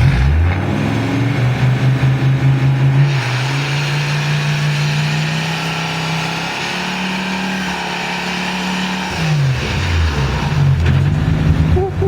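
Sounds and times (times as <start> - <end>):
unmuffled engine revving high: 0.0 - 12.0.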